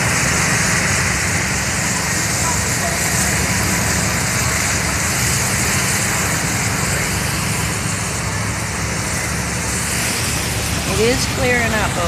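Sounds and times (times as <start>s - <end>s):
car engine and road rumble: 0.0s - 12.0s
tyre hiss on wet road: 0.0s - 12.0s.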